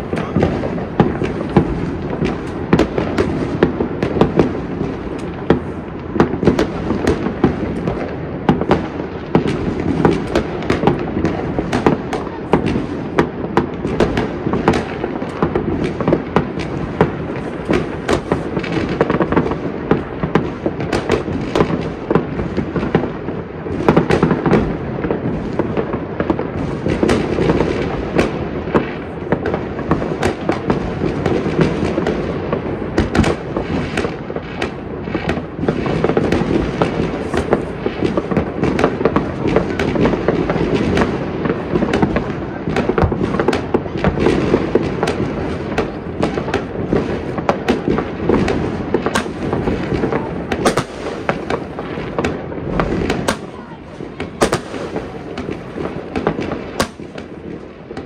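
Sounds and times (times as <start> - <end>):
distant fireworks rumble: 0.0 - 58.0
fireworks bangs and crackles: 0.0 - 58.0.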